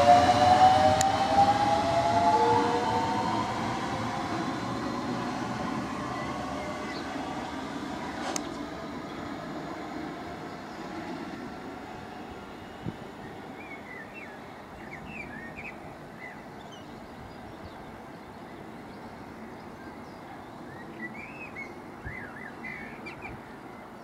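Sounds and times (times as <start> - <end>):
electric train rumbling: 0.0 - 19.8.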